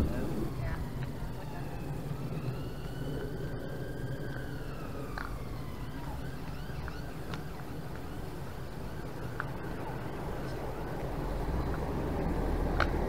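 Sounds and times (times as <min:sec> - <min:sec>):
emergency vehicle siren wailing: 0:00.0 - 0:13.0
steady low rumble: 0:00.0 - 0:13.0.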